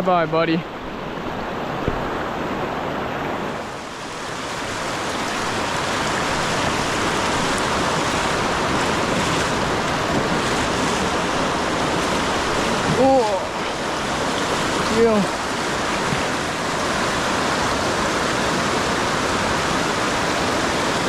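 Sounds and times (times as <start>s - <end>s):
river current rushing: 0.0s - 21.0s.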